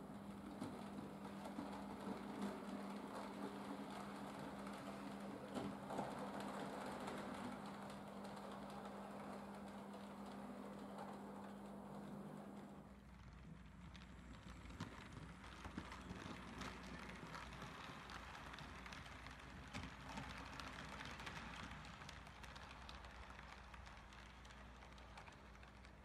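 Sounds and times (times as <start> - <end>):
wheels clicking over rail joints: 0.0 - 26.0.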